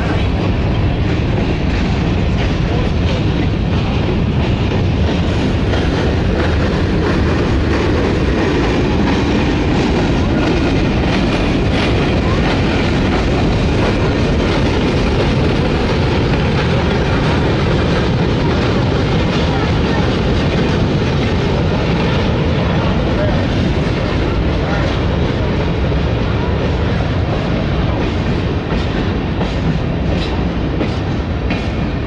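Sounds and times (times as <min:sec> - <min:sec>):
steel wheels rumbling on rails: 0:00.0 - 0:32.0.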